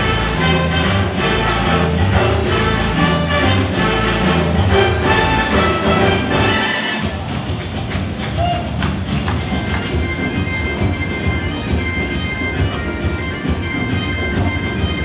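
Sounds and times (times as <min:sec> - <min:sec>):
bagpipe music: 0:00.0 - 0:07.3, 0:09.5 - 0:15.0.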